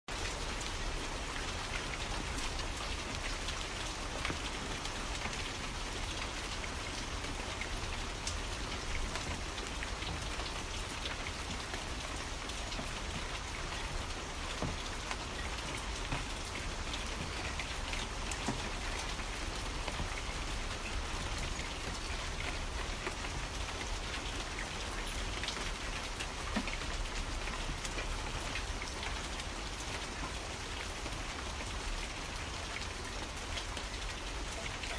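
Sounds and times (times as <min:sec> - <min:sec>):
steady rain with ticking drops: 0:00.0 - 0:34.9.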